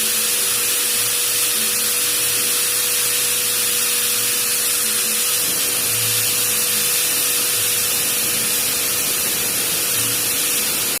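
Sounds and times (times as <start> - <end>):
electric drill whining: 0.0 - 11.0.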